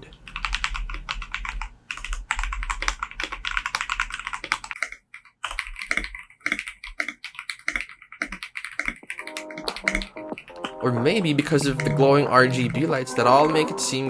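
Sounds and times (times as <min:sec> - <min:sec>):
mechanical keyboard typing: 0:00.3 - 0:12.9.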